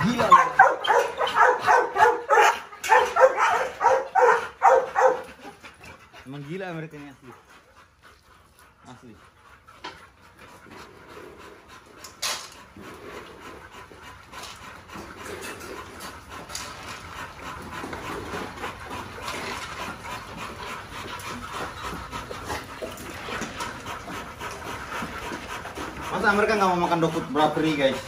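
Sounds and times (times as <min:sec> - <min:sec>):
dogs panting: 0:00.0 - 0:28.0.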